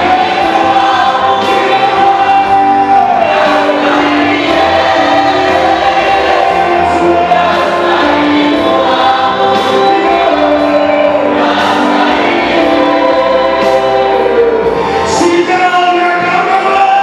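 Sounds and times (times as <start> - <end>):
choir singing gospel: 0.0 - 17.0.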